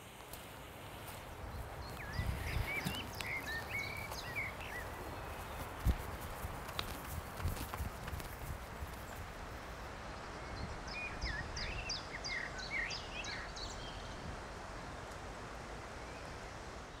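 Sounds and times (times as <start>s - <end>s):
songbird singing: 0.0s - 17.0s
woodland ambience hiss: 0.0s - 17.0s.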